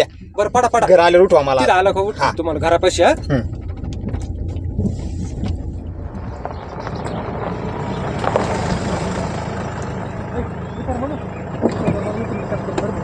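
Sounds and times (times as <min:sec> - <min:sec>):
low engine rumble: 0:00.0 - 0:13.0
road and wind noise: 0:00.0 - 0:13.0.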